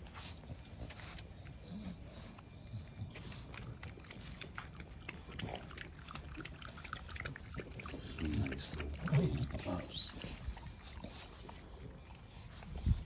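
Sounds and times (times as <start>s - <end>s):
puppies grunting and snuffling: 0.0s - 13.0s
puppies lapping water from bowl: 0.0s - 13.0s.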